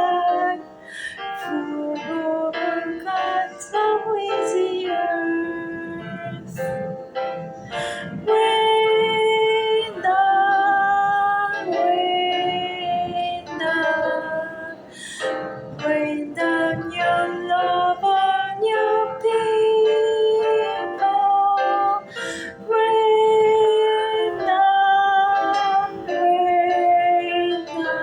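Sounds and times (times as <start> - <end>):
woman singing long notes: 0.0 - 7.1, 7.8 - 28.0
light musical accompaniment: 0.0 - 28.0.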